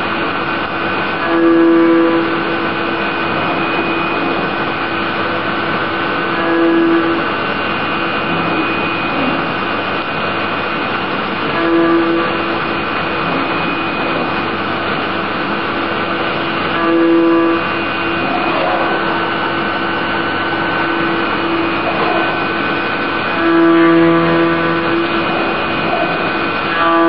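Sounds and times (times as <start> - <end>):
humming cutting tone: 0.0 - 27.0
milling machine cutting metal: 0.0 - 27.0.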